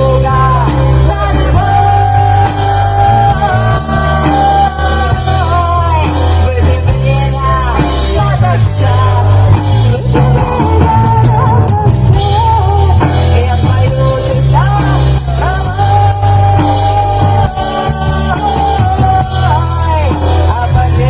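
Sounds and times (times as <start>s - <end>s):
drum kit: 0.0s - 21.0s
sliding lead melody: 0.0s - 21.0s
steady bass: 0.0s - 21.0s.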